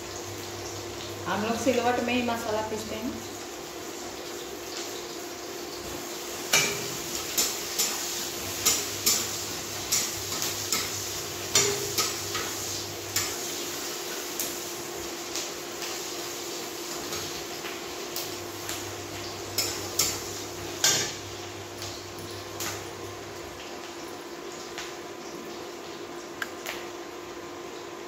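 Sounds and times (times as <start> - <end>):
onions frying in oil: 0.0 - 28.0.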